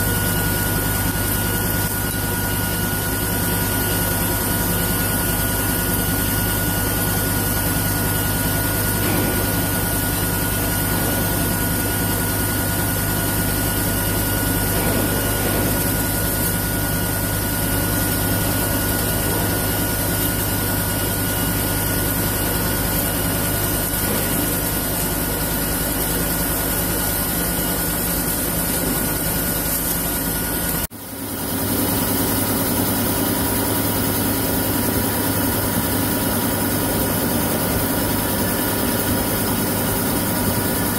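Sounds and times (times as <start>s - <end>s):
milling machine whining: 0.0s - 40.9s.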